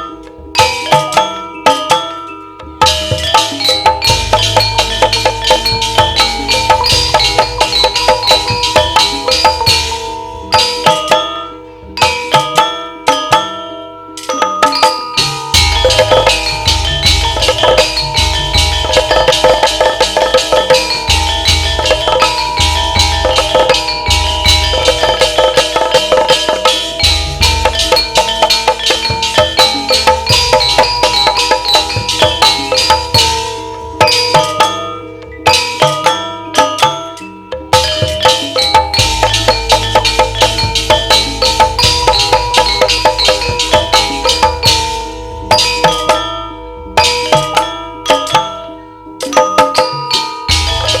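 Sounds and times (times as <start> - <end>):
drum beat: 0.0 - 11.4, 12.0 - 13.6, 14.2 - 51.0
ringing metal percussion: 0.0 - 51.0.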